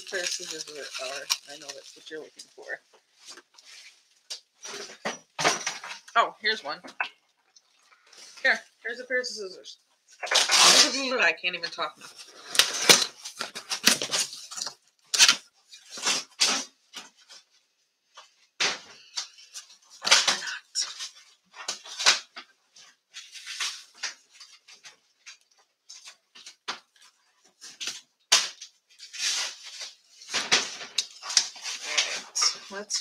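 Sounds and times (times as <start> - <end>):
tape and cardboard crinkling: 0.0 - 6.1, 10.2 - 11.1, 12.0 - 17.6, 19.0 - 33.0.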